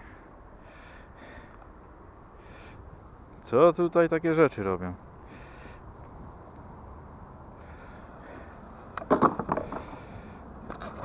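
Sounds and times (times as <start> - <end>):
faint outdoor hiss: 0.0 - 10.8.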